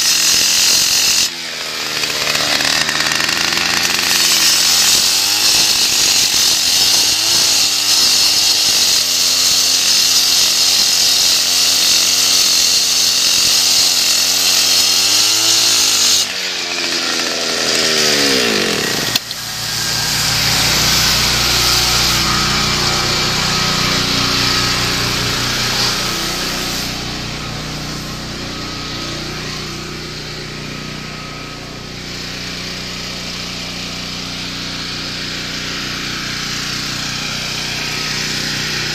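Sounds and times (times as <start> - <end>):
concrete saw grinding: 0.0 - 38.9
saw engine running: 0.0 - 38.9.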